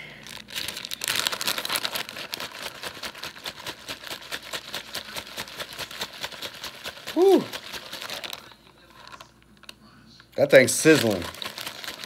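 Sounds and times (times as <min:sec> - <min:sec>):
plastic bag crinkling: 0:00.0 - 0:09.8, 0:10.4 - 0:12.0.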